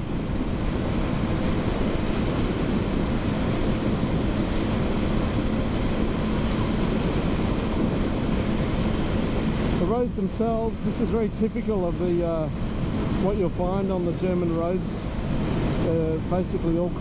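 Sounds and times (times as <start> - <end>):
wind rush over microphone: 0.0 - 17.0.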